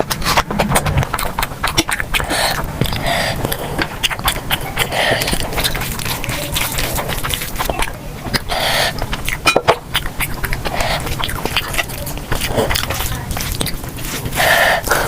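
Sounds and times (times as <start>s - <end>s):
chewing with mouth clicks: 0.0s - 15.0s
noisy mouth sounds: 0.0s - 15.0s.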